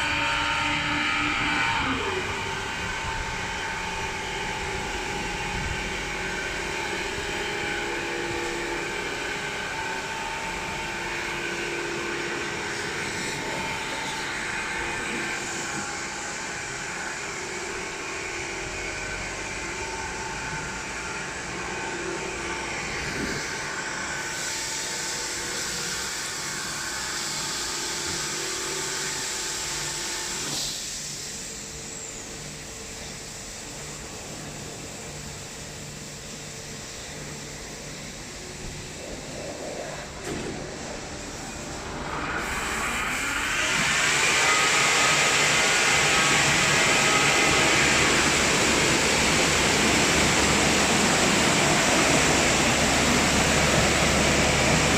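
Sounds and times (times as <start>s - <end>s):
car wash machinery humming: 0.0s - 54.9s.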